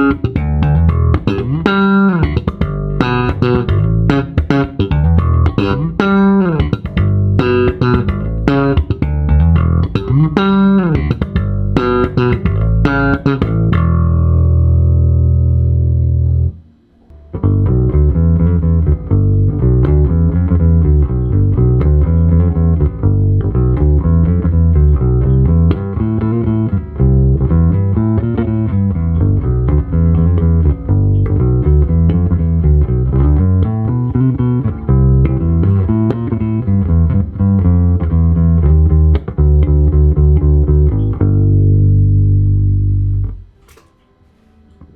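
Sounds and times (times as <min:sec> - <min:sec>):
electric bass guitar playing: 0:00.0 - 0:44.9.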